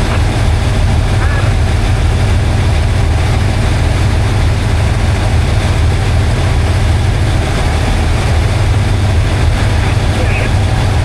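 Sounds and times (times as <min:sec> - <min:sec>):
diesel locomotive engine drone: 0:00.0 - 0:11.0
train running noise: 0:00.0 - 0:11.0.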